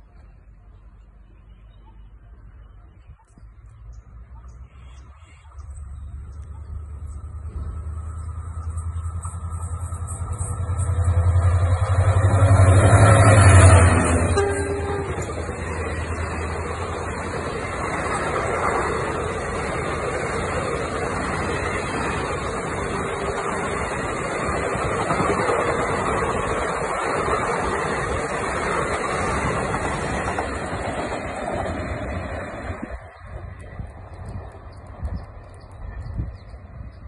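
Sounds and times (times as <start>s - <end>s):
train wheels on rails: 5.4s - 37.0s.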